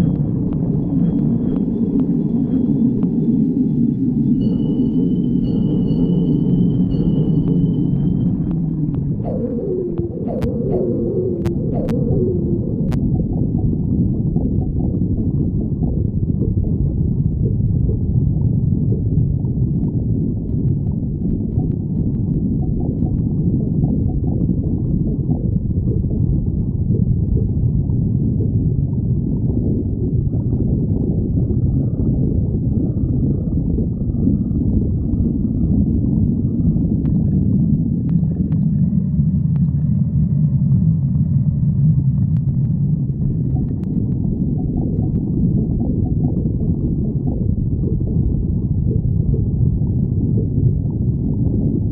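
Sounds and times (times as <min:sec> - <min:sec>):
stomach growling: 0:06.9 - 0:51.9.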